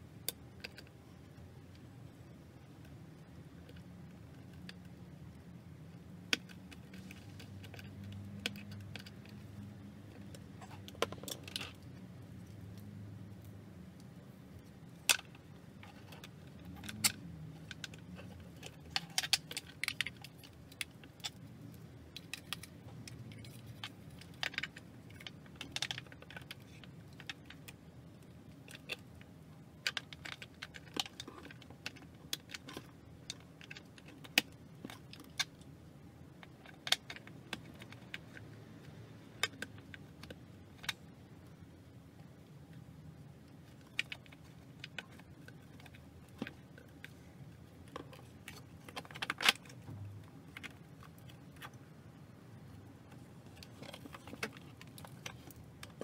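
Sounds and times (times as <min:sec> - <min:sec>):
faint low hum: 0:00.0 - 0:56.0
plastic parts clicking and clattering: 0:00.2 - 0:12.0, 0:14.7 - 0:41.5, 0:42.1 - 0:56.0.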